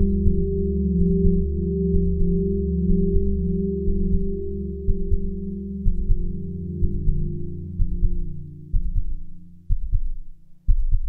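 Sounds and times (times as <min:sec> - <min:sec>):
ambient drone tones: 0:00.0 - 0:09.8
soft low double thumps: 0:00.0 - 0:11.0.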